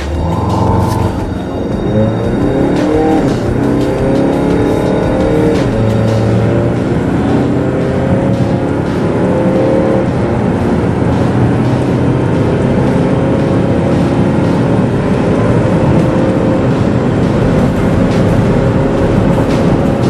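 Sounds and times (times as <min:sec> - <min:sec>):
diesel engine accelerating: 0:00.0 - 0:20.0
road and tyre noise: 0:00.0 - 0:20.0.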